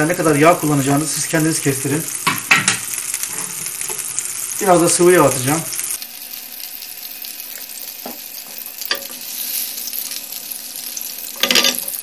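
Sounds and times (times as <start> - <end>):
butter and oil sizzling in a pan: 0.0 - 12.0.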